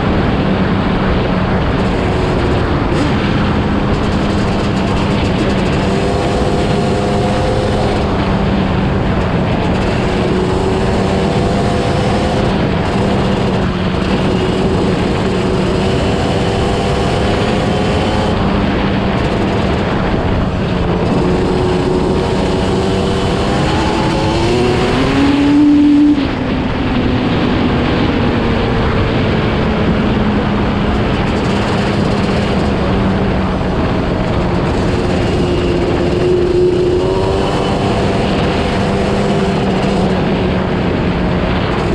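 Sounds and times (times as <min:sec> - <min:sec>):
atv engine revving: 0:01.2 - 0:41.9.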